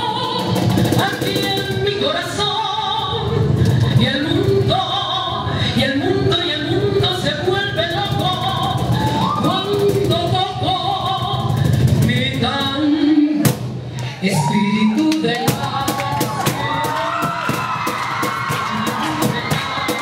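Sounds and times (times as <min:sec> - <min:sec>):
woman singing amplified: 0:00.0 - 0:20.0.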